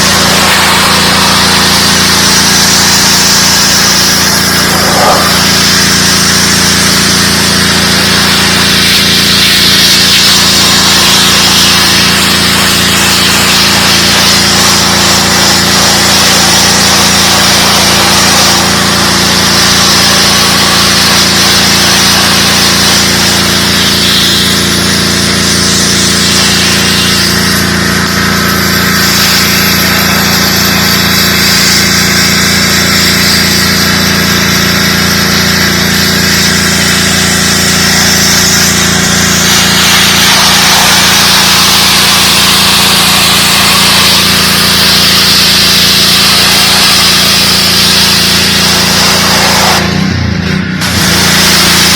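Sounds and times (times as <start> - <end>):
high-pressure water jet hiss: 0.0 - 50.1, 50.8 - 51.9
pressure washer engine humming: 0.0 - 51.9.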